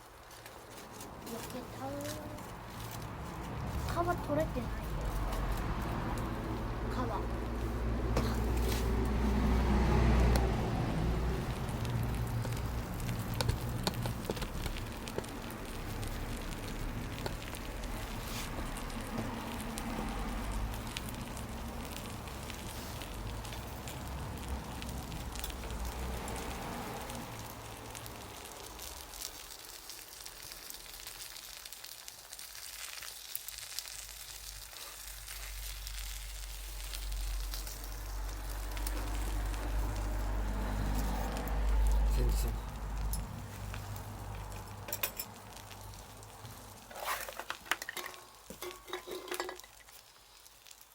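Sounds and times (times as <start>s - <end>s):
bonfire crackling and popping: 0.0s - 50.9s.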